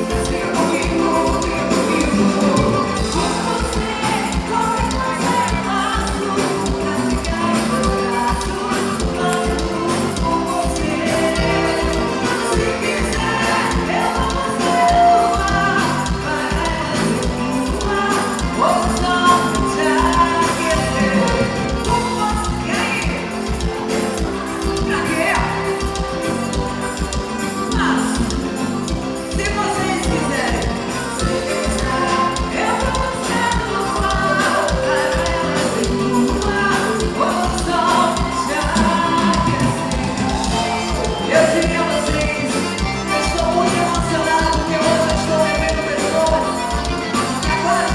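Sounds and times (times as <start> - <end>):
live band playing folk music: 0.0 - 47.9
person singing: 0.0 - 47.9
steady drum beat: 0.0 - 47.9.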